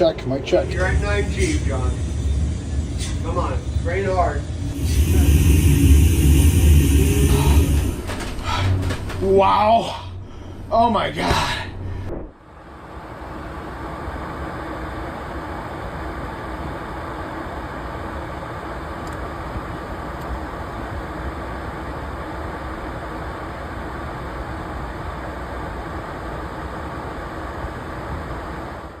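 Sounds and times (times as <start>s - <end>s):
aircraft engine drone: 0.0s - 29.0s
faint constant hum: 0.0s - 29.0s.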